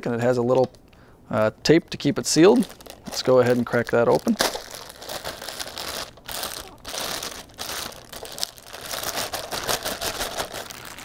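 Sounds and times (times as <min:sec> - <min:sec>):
plastic bag crinkling: 0:02.0 - 0:11.0.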